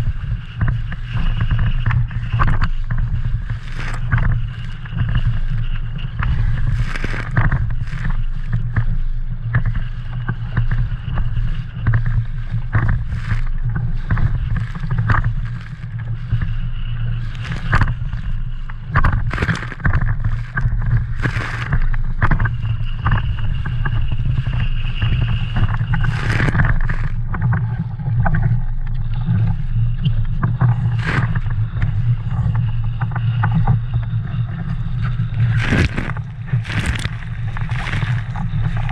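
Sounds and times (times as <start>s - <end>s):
water slapping against hull: 0.0s - 38.9s
wind rumbling on microphone: 0.0s - 38.9s.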